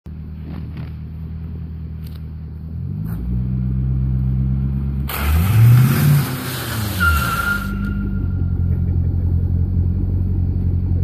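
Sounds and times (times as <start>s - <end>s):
car engine idling and revving: 0.1s - 11.0s.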